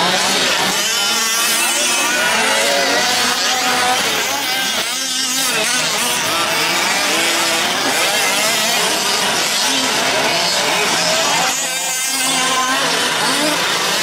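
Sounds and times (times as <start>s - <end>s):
small two-stroke engines revving: 0.0s - 14.0s.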